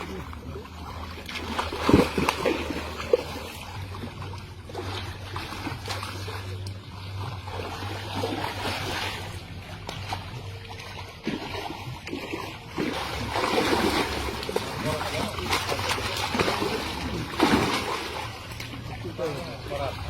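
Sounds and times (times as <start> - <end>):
steady low hum: 0.0 - 20.0
water splashing and trickling: 0.0 - 20.0.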